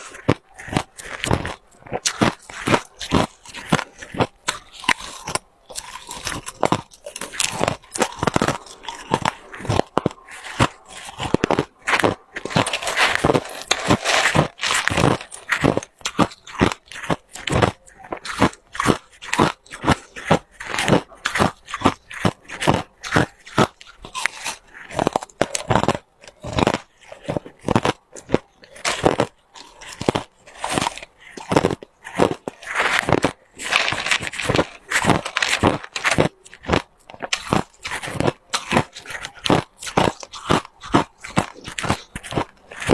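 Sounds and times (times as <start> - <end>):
chewing ice cubes crunching: 0.0 - 42.9.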